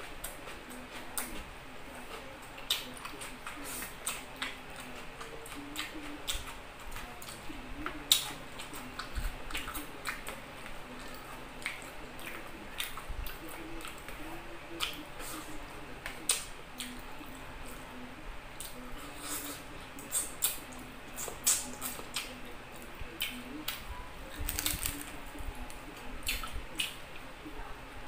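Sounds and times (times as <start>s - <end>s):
wet chewing and lip-smacking: 2.0s - 14.2s, 14.8s - 17.8s, 18.6s - 25.1s, 26.2s - 27.0s.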